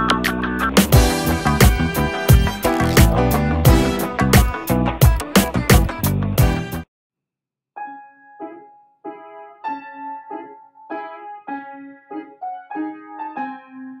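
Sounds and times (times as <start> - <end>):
piano notes and chords: 0.0 - 6.9, 7.8 - 14.0.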